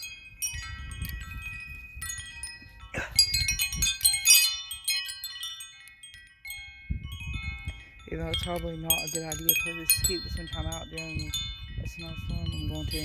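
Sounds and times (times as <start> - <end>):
wind chime ringing: 0.0 - 13.0
wind rumble on microphone: 0.0 - 13.0.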